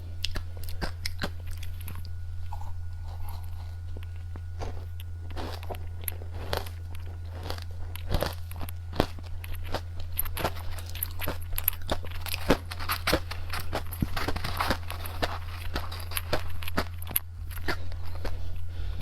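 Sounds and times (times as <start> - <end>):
chewing crunchy candy: 0.0 - 19.0
steady low hum: 0.0 - 19.0.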